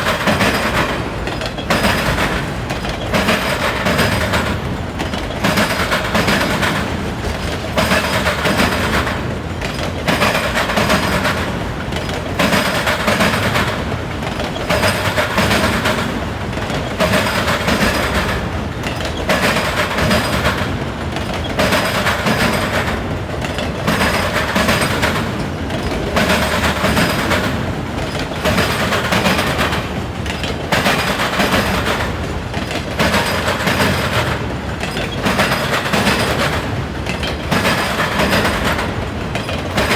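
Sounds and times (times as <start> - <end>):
train wheels clattering over crossing: 0.0 - 39.9.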